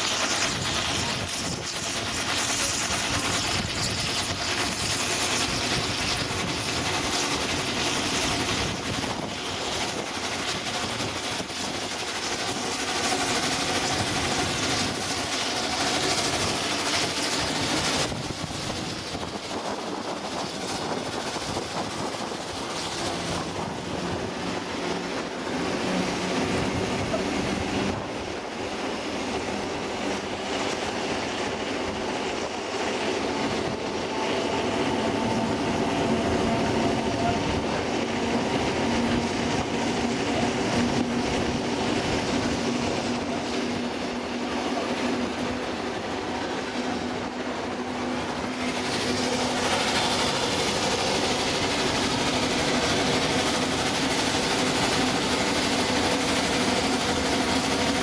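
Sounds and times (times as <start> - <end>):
locomotive engine noise: 0.0 - 58.0
wheels clickety-clack on rails: 0.0 - 58.0.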